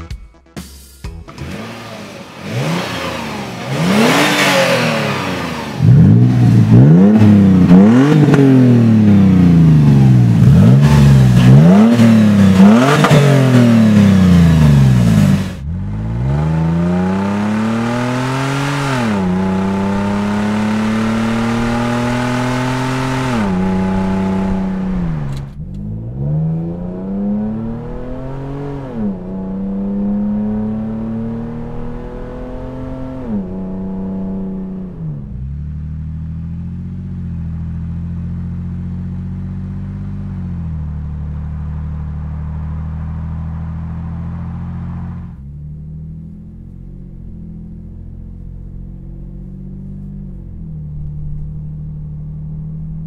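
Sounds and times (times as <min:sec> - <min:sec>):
engine revving through exhaust: 0:01.3 - 0:53.0.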